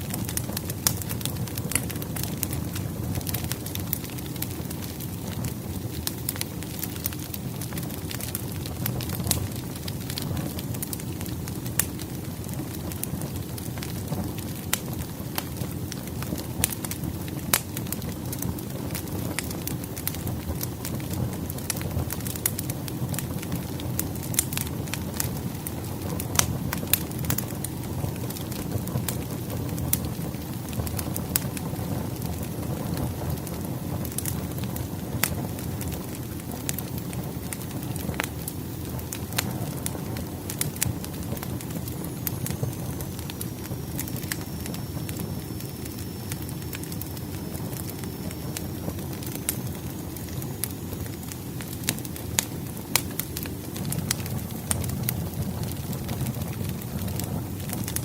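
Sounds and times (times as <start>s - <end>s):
fire crackling and popping: 0.0s - 58.0s
low rush of flame: 0.0s - 58.0s.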